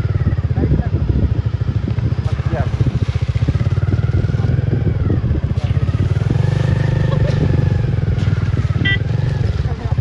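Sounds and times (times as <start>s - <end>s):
diesel engine throbbing at low revs: 0.0s - 10.0s.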